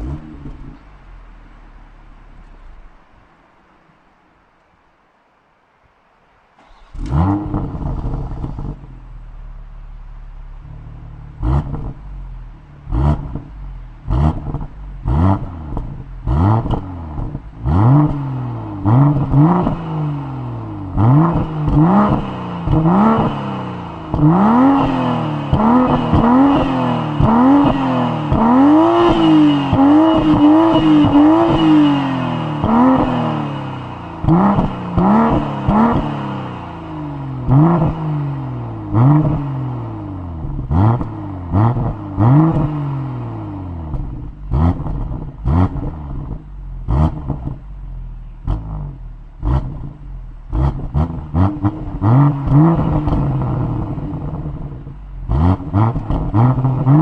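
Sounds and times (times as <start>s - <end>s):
car engine revving: 0.0s - 3.2s, 6.6s - 57.0s
car engine starting: 0.0s - 4.6s, 6.3s - 57.0s.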